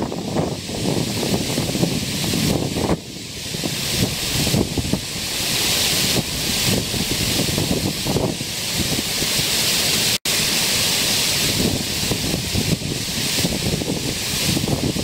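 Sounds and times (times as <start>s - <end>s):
wind buffeting microphone: 0.0s - 9.6s, 11.3s - 15.0s
water pouring over a weir: 0.6s - 15.0s.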